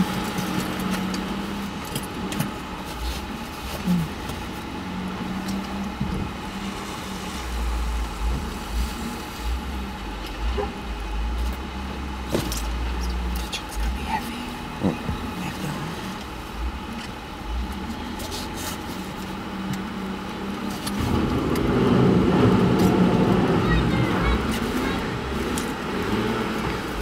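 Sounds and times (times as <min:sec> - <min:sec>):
deep engine rumble: 0:00.0 - 0:27.0
diesel engines humming: 0:00.0 - 0:27.0.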